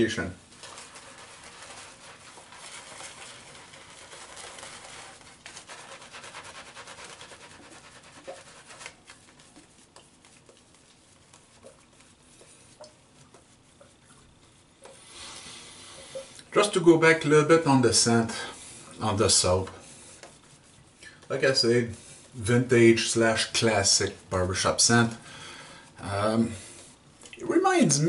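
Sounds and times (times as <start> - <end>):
shaving brush swishing lather: 0.0 - 16.7, 17.8 - 25.2.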